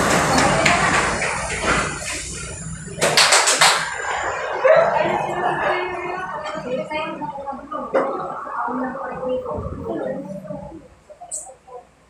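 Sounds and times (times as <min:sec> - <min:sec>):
people mumbling: 0:00.0 - 0:11.8.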